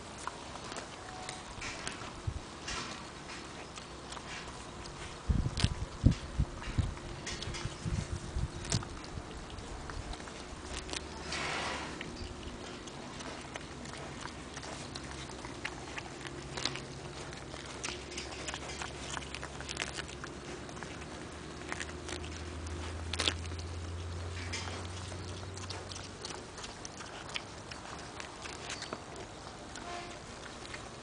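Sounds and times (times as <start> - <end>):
pig chewing grass: 0.0 - 31.0
steady low hum: 0.0 - 31.0.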